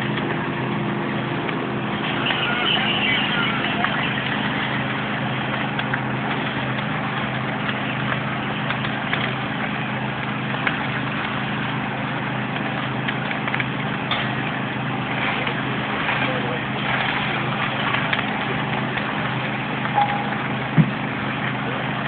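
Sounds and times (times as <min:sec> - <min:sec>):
burning roof crackling: 0:00.0 - 0:22.0
sharp crack of fire: 0:00.0 - 0:22.0
vehicle engines idling: 0:00.0 - 0:22.0.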